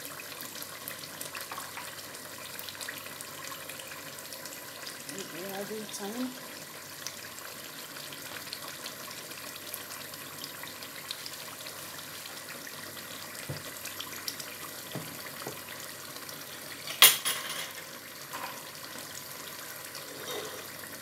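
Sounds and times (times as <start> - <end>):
stew bubbling in a pot: 0.0 - 21.0.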